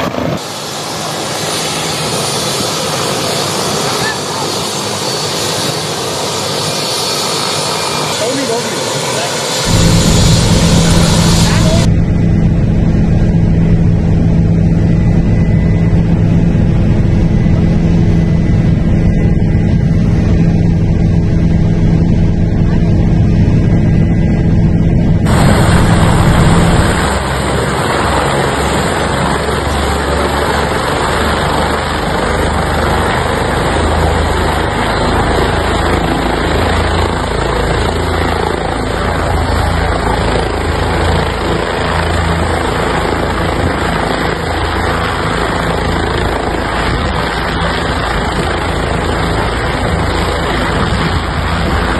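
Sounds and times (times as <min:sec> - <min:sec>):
helicopter engine and rotor: 0:00.0 - 0:51.9.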